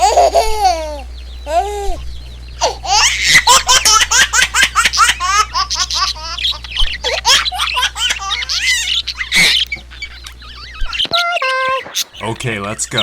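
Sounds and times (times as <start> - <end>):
baby giggling: 0.0 - 2.0, 2.6 - 12.2.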